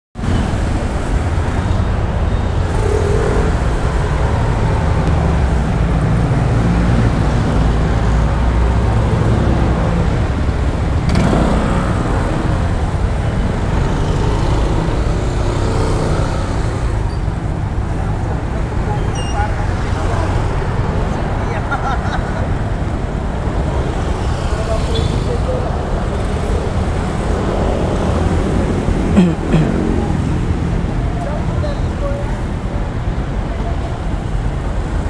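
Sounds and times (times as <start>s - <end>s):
road traffic: 0.2s - 35.0s.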